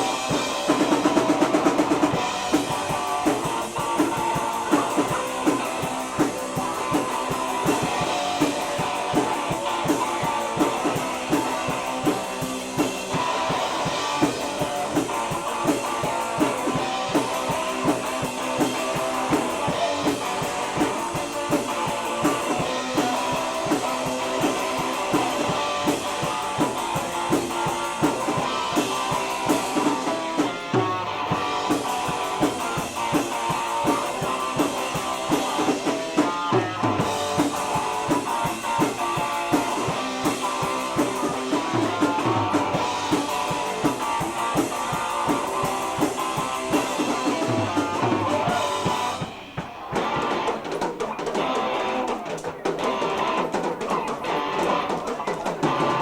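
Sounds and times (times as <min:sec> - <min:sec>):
bass guitar: 0:00.0 - 0:56.0
drum kit beat: 0:00.0 - 0:56.0
guitar solo: 0:00.0 - 0:56.0.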